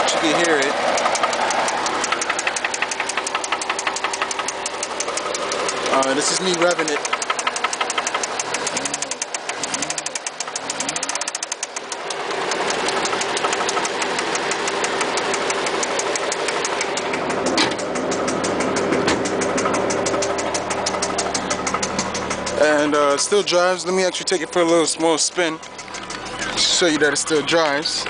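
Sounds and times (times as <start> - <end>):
engine revving and idling: 0.0 - 28.0
rhythmic engine knock: 0.0 - 28.0.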